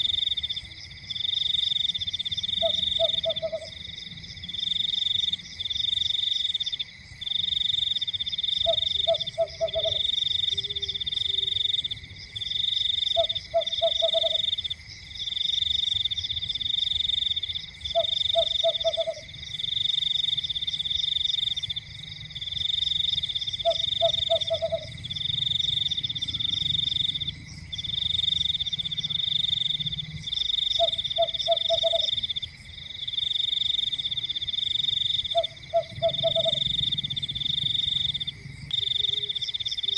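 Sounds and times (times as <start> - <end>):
frogs croaking: 0.0 - 39.9
frogs trilling: 0.0 - 39.9.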